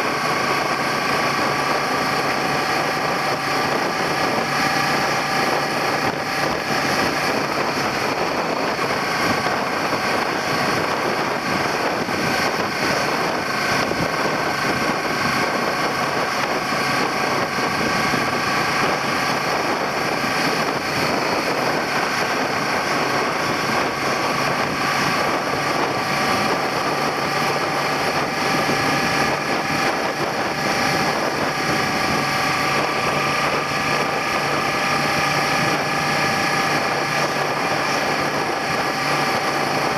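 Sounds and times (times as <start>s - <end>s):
wind rush noise: 0.0s - 39.9s.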